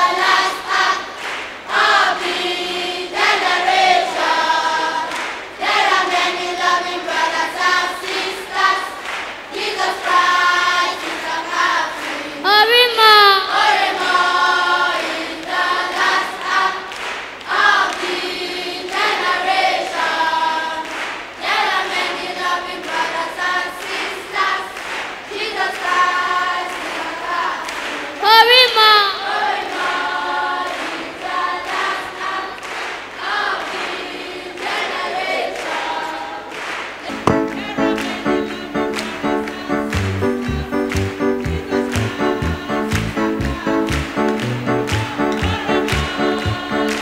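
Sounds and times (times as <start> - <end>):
children's choir singing: 0.0 - 47.0.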